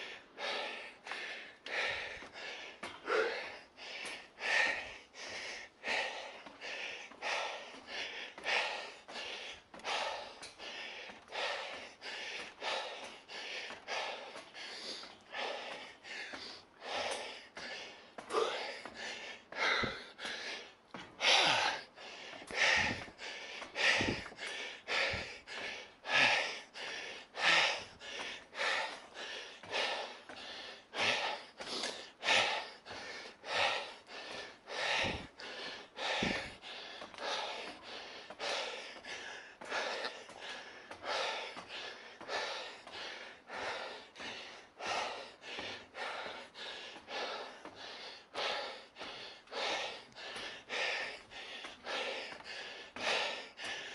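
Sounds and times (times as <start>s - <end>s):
person panting hard: 0.0s - 53.9s.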